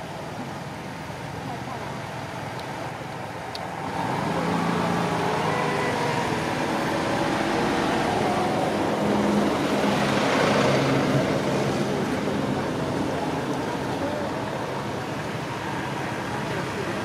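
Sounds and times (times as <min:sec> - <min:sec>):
engine hum: 0:00.0 - 0:17.0
road noise: 0:00.0 - 0:17.0.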